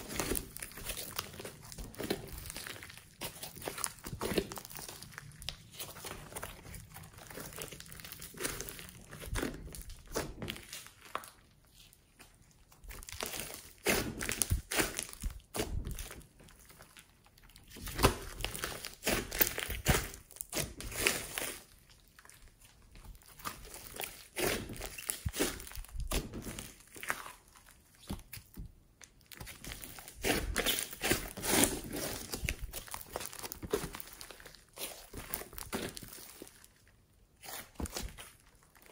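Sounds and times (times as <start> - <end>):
slime crackling and popping: 0.0 - 38.9.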